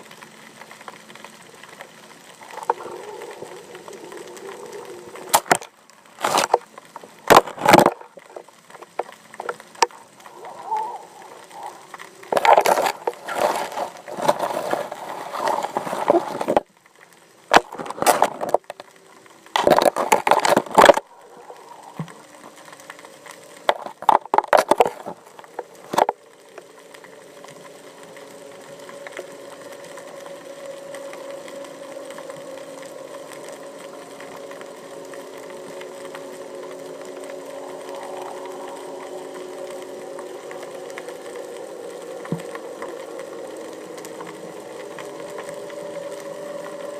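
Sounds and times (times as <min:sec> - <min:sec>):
boat engine hum underwater: 0:00.0 - 0:46.9.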